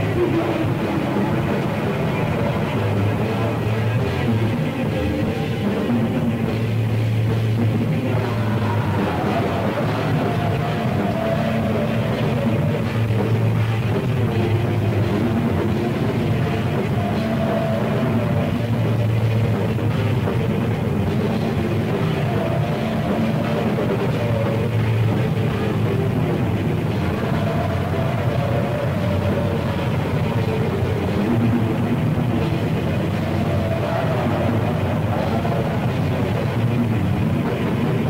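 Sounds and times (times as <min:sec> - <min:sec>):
black metal music: 0:00.0 - 0:38.0.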